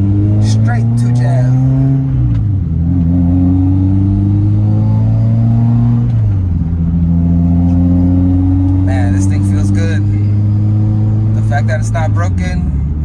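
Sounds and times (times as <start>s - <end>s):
car engine accelerating: 0.0s - 13.0s
gear change: 0.0s - 13.0s.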